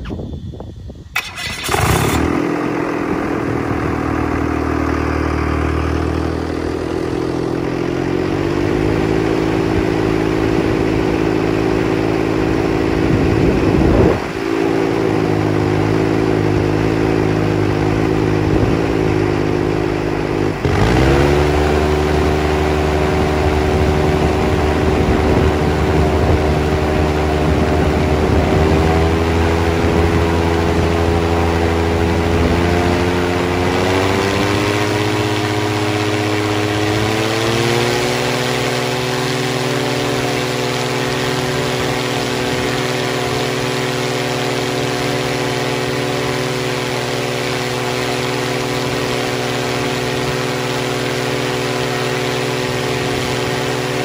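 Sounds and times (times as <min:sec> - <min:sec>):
aircraft engine running hard: 0:00.0 - 0:54.0.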